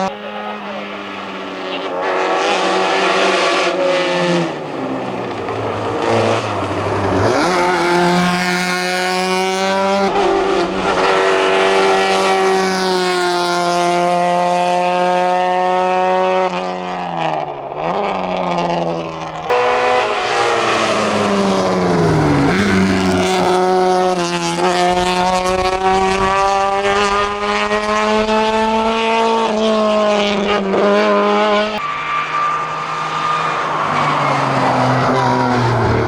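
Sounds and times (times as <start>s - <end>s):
racing car engine revving: 0.0s - 36.0s.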